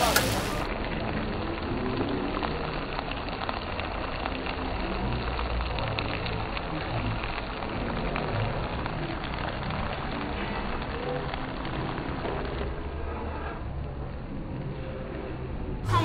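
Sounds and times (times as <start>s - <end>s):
food sizzling in a pan: 0.0s - 13.6s.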